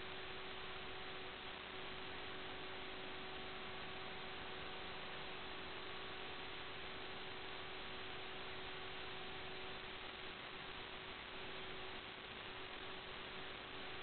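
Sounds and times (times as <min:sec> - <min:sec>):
faint hum: 0:00.0 - 0:14.0
static hiss: 0:00.0 - 0:14.0.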